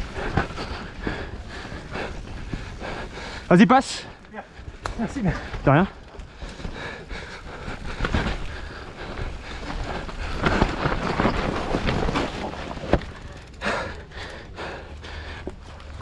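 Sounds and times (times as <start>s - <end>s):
bike rattling: 0.0s - 16.0s
tyres on dirt: 0.0s - 16.0s.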